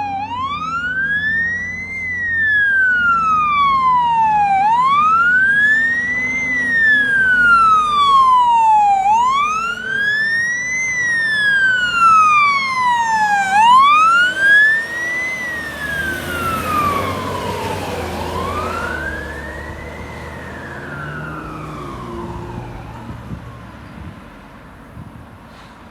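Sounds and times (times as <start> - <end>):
fire engine siren wailing: 0.0 - 25.1
engine and road noise: 0.0 - 25.9.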